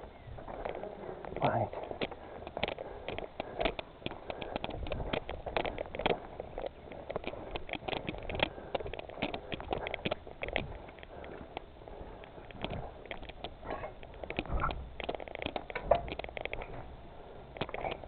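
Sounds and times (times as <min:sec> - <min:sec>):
footsteps: 0:00.0 - 0:18.0
gear clicking and tapping: 0:00.0 - 0:18.0.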